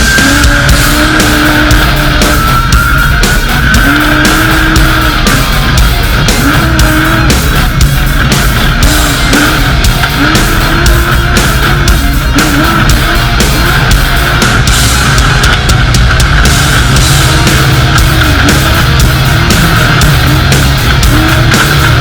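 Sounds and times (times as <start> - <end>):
engine revving: 0.0 - 22.0
heavy metal music: 0.0 - 22.0.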